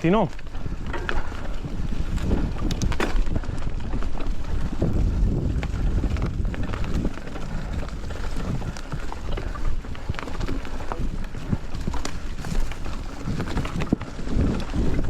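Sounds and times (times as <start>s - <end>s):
bike clicks and rattles: 0.0s - 15.0s
low tyre rumble: 0.0s - 15.0s
wind buffeting microphone: 0.0s - 15.0s.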